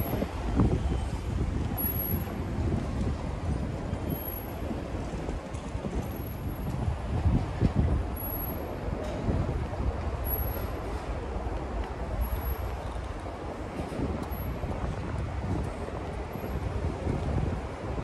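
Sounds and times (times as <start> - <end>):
road traffic rumbling: 0.0 - 18.0
wind gusting on microphone: 0.0 - 18.0.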